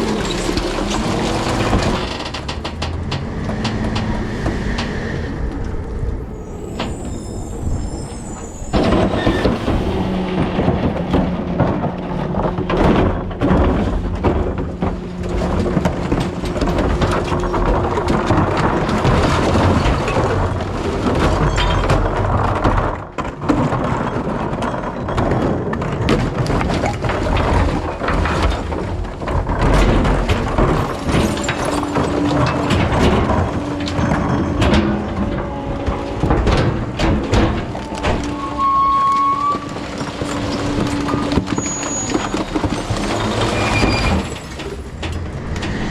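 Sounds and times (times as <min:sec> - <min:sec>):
truck engine droning: 0:00.0 - 0:21.2, 0:27.0 - 0:45.9
rattles and clunks: 0:00.0 - 0:45.9.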